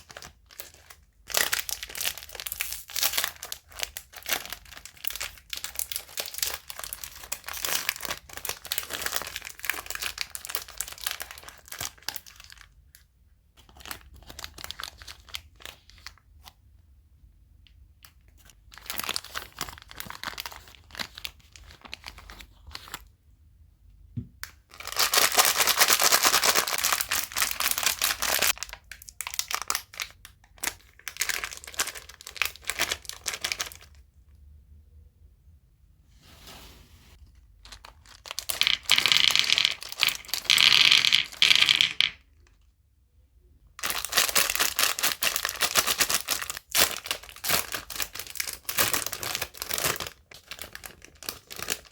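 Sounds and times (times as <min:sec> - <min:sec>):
plastic wrappers crinkling: 0:00.0 - 0:12.9, 0:13.6 - 0:16.3, 0:18.0 - 0:23.1, 0:24.7 - 0:34.0, 0:37.4 - 0:42.6, 0:43.8 - 0:51.9.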